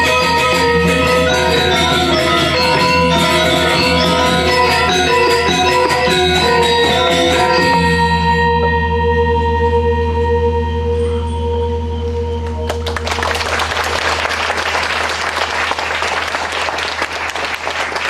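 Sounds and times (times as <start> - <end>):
gamelan ensemble playing: 0.0 - 16.5.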